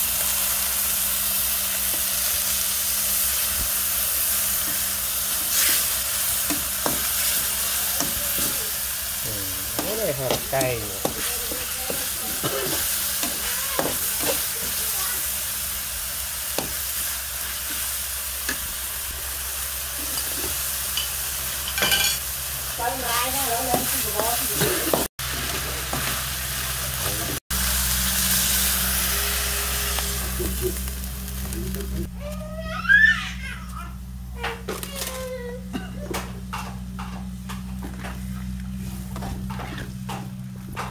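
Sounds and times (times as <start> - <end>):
food sizzling in a wok: 0.0 - 33.2, 36.4 - 40.4.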